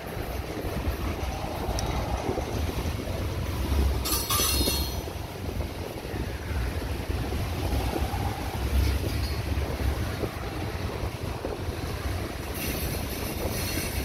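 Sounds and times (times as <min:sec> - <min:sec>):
freight train rumbling over bridge: 0:00.0 - 0:14.0.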